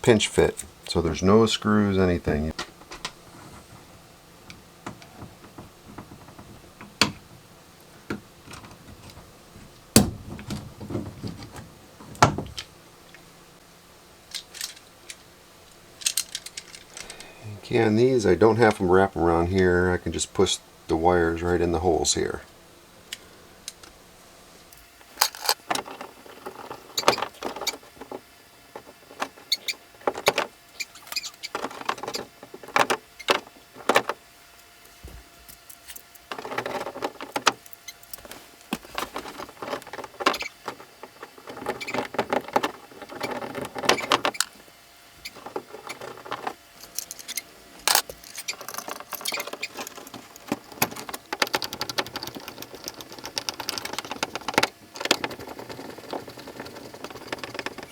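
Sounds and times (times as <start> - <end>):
wall outlet and wires handled: 2.3 - 13.3, 14.2 - 19.8, 24.6 - 57.9.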